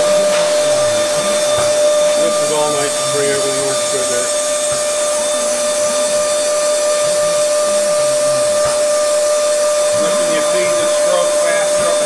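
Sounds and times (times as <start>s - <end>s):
machine hiss and whine: 0.0s - 12.0s.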